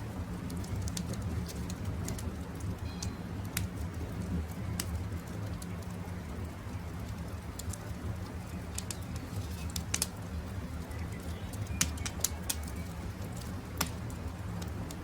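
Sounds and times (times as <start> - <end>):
campfire crackling: 0.0 - 15.0
fire popping and snapping: 0.0 - 15.0.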